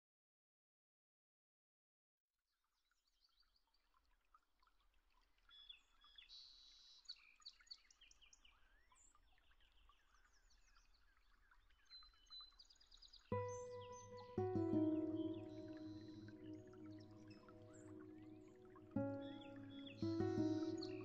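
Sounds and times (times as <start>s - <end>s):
faint birdsong chirps and trills: 2.8s - 21.0s.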